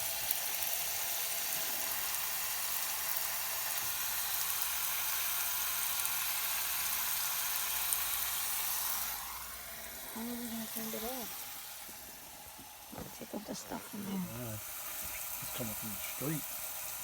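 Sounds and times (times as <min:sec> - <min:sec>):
water spraying from pipe: 0:00.0 - 0:17.0.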